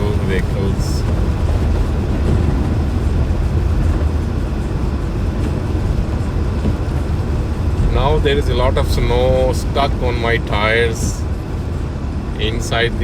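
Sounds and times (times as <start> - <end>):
car tyres and engine rumble: 0.0 - 13.0.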